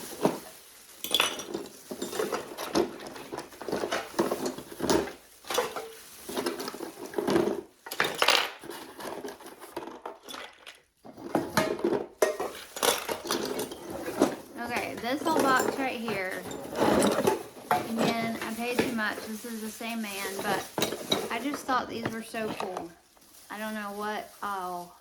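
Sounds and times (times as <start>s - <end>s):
metal tins clinking and knocking: 0.0s - 23.0s.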